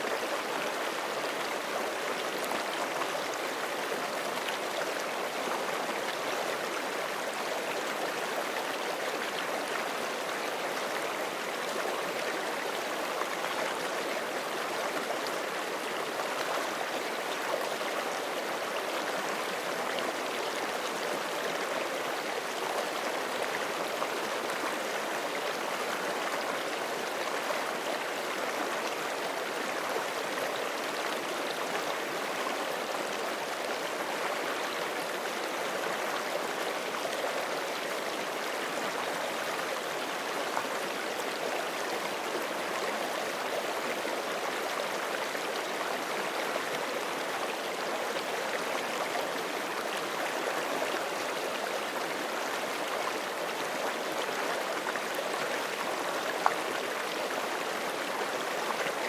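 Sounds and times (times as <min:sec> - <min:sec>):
creek running over rocks: 0:00.0 - 0:59.0.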